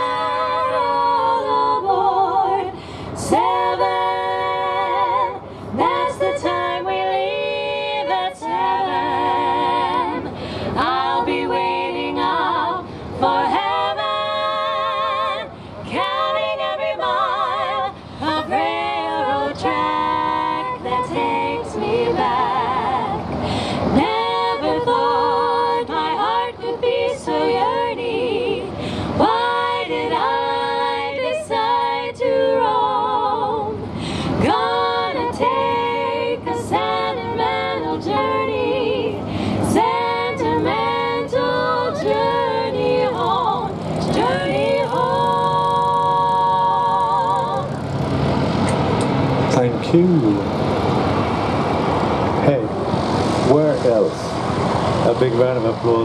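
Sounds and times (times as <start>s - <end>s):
female group singing a cappella: 0.0s - 48.9s.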